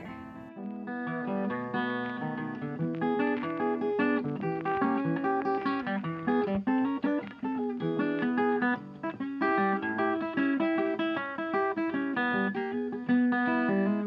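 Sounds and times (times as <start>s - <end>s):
plucked acoustic guitar melody: 0.0s - 14.0s.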